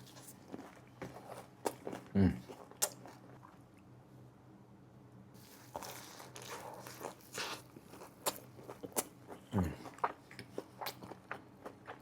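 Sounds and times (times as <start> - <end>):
crunchy chewing: 0.0 - 3.6, 5.4 - 12.0.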